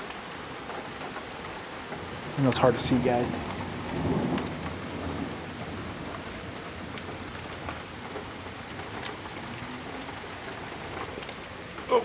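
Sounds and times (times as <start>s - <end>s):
steady rain pouring: 0.0s - 12.0s.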